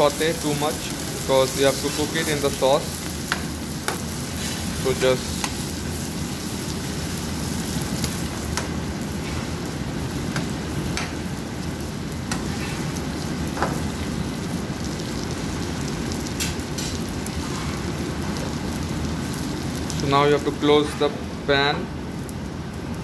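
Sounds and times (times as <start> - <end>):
food sizzling in frying pan: 0.0 - 23.0.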